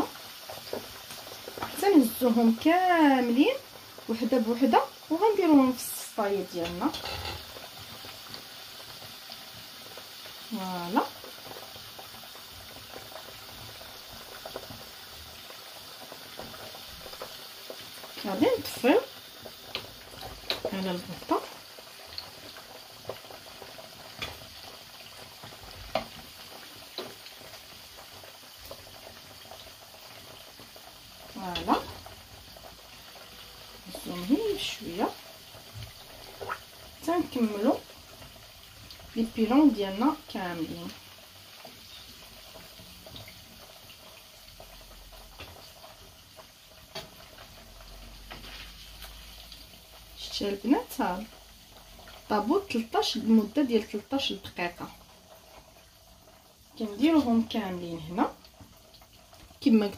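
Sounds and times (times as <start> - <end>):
oil sizzling and bubbling: 0.0 - 59.9.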